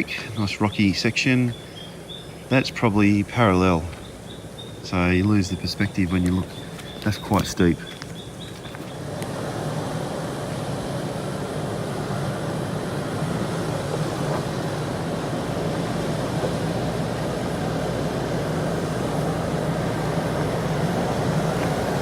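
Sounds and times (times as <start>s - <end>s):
tyres on rocky track: 0.0s - 22.0s
vehicle engine drone: 0.0s - 22.0s.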